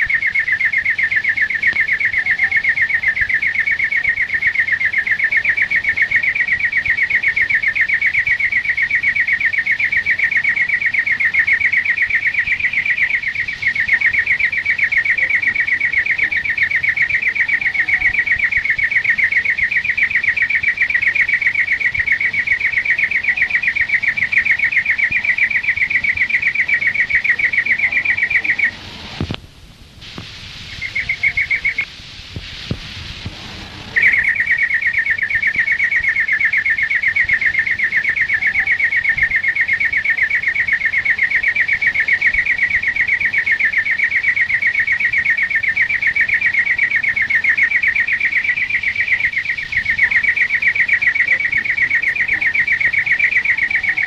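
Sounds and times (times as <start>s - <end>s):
bird singing fast trill: 0.0s - 28.8s, 30.6s - 31.9s, 33.9s - 54.0s.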